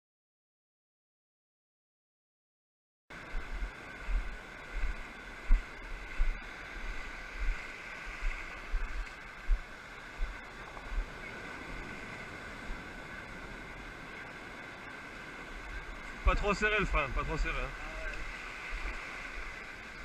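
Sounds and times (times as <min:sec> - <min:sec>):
surf washing over beach: 0:03.1 - 0:20.0.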